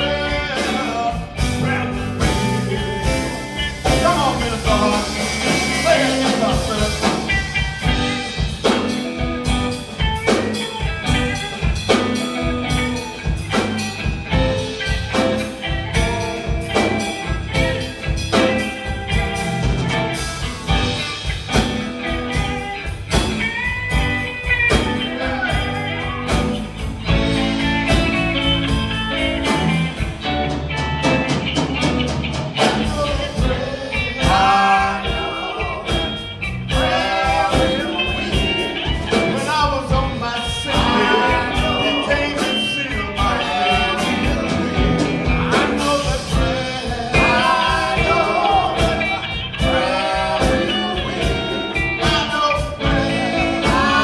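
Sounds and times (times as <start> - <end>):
people singing: 0.0 - 30.6, 31.4 - 54.0
drum kit beat: 0.0 - 54.0
electric guitars: 0.0 - 54.0.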